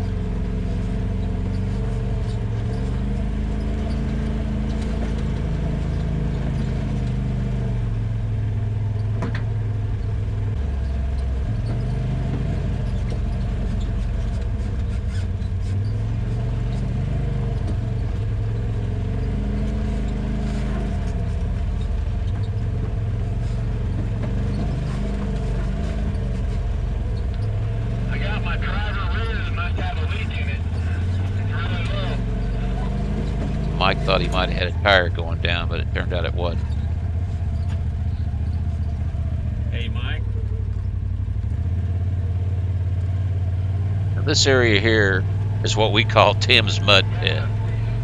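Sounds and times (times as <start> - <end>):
off-road vehicle engine running: 0.0 - 48.0.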